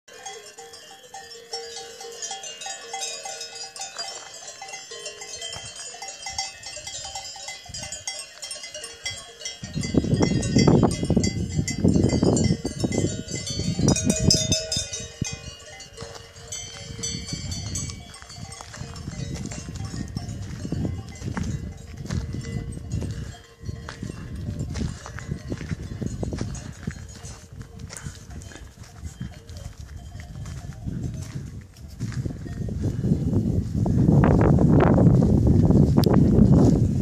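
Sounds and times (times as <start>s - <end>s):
cowbells clanking: 0.1s - 33.0s.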